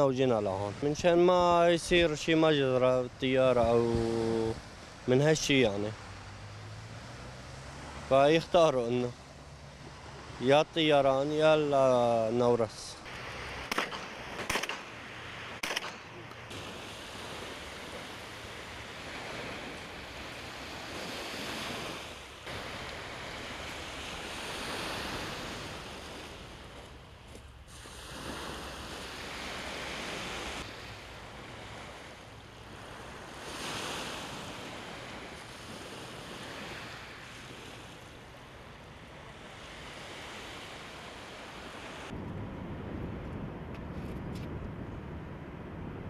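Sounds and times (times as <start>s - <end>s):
surf rushing: 0.0s - 42.2s.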